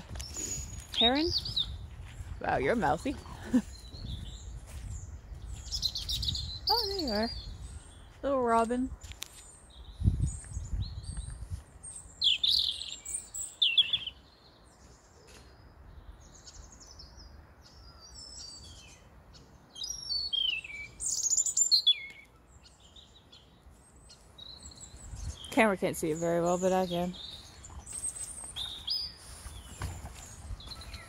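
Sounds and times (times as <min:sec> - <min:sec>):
robin singing: 0:00.0 - 0:31.0.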